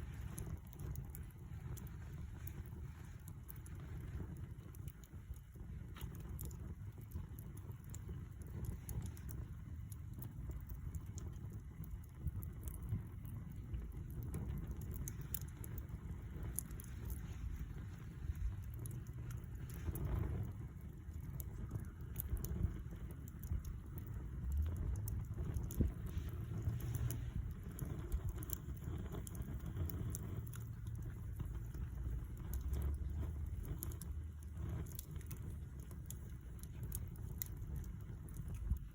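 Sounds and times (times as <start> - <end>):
campfire burning: 0.0 - 38.9
fire crackles and pops: 0.0 - 38.9.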